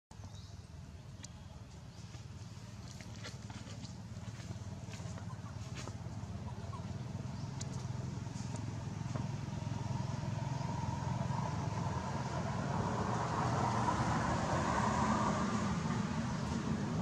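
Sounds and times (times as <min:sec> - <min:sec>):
vehicle engine drone approaching: 0:00.6 - 0:17.0.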